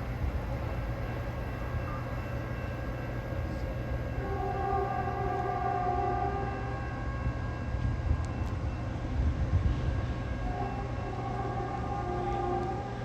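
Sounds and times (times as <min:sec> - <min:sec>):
low rumble of rail traffic: 0:00.0 - 0:13.0.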